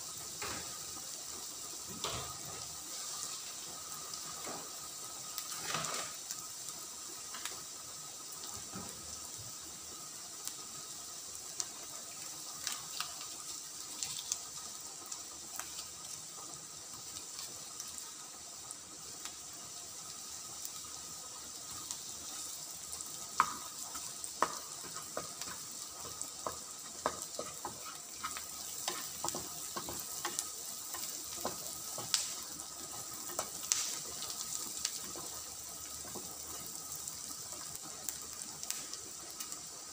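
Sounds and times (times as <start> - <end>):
onion sizzling in oil: 0.0 - 39.9.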